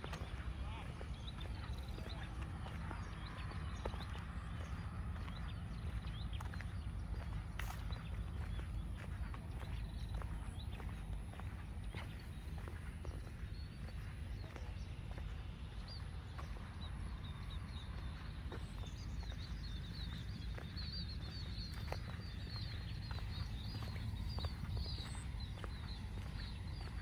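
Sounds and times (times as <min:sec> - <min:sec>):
footsteps on a path: 0:00.0 - 0:27.0
low steady rumble: 0:00.0 - 0:27.0
small birds twittering: 0:00.0 - 0:27.0.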